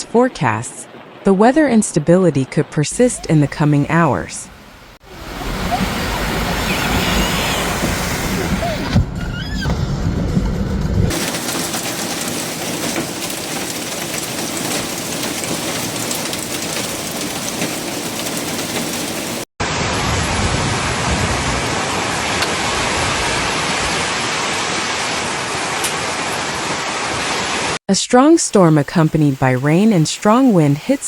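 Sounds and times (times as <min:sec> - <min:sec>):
heavy rain pouring: 0:02.9 - 0:27.8.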